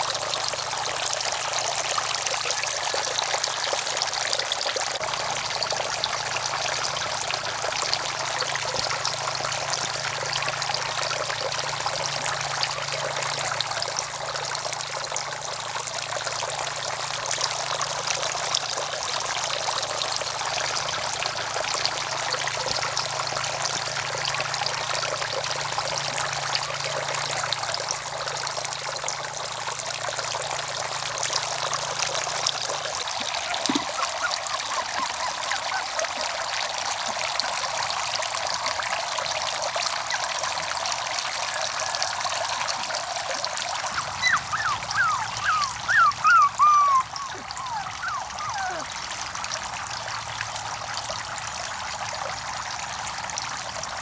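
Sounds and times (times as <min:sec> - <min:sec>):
fountain water splashing into pond: 0:00.0 - 0:54.0.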